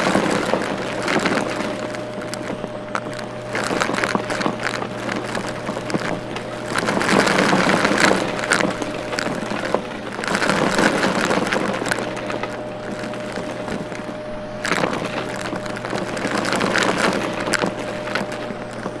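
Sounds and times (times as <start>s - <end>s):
debris crackling in vacuum: 0.0s - 19.0s
vacuum cleaner humming: 0.0s - 19.0s.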